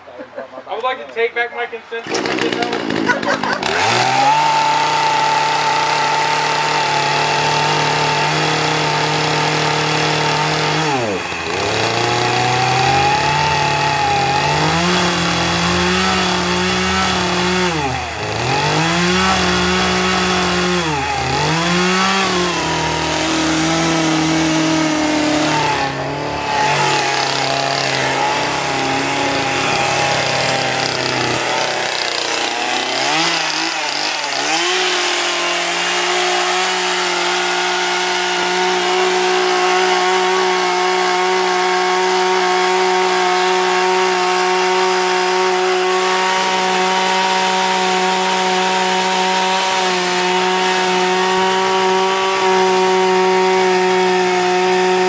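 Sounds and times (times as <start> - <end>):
chainsaw engine revving: 2.0 - 55.0.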